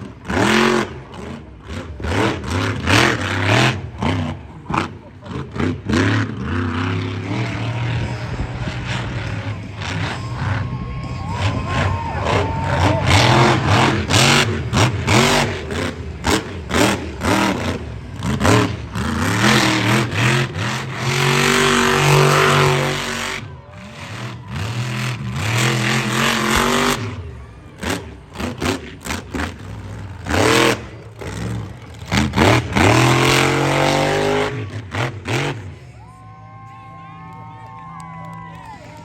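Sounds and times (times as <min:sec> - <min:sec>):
truck engine revving hard: 0:00.0 - 0:36.0.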